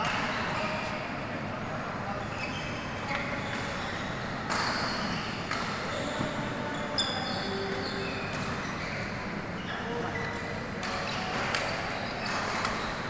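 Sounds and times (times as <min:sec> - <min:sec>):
steady hall noise: 0:00.0 - 0:13.0
shoes squeaking on court: 0:02.2 - 0:13.0.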